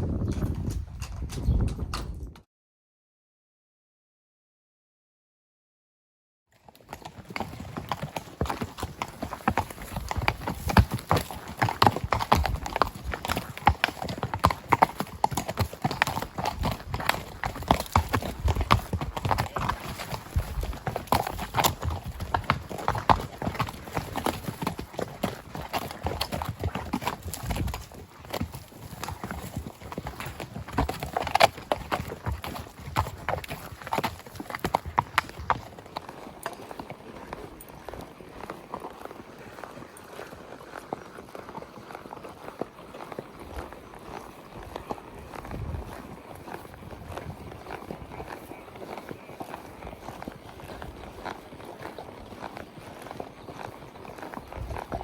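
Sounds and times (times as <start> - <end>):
horse hoofbeats clip-clopping: 0.0 - 2.4, 6.6 - 55.0.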